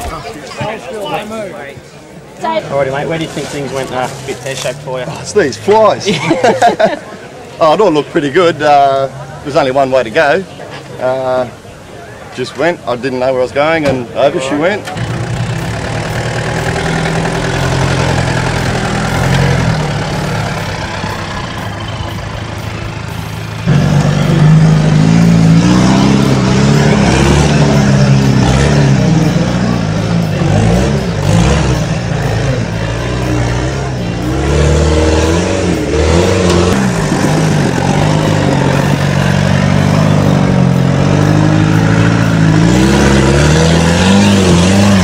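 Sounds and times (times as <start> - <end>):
truck engines revving: 0.0 - 45.0.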